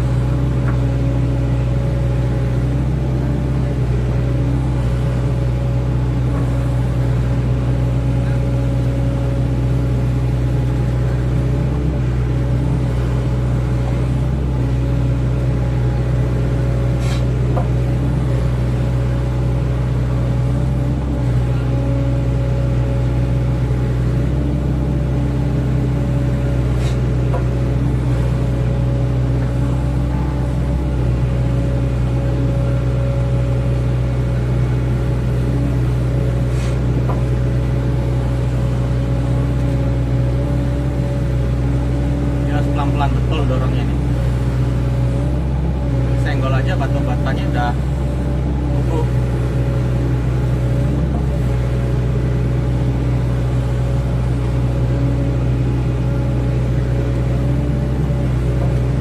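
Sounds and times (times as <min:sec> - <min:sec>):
excavator diesel engine humming: 0:00.0 - 0:59.0.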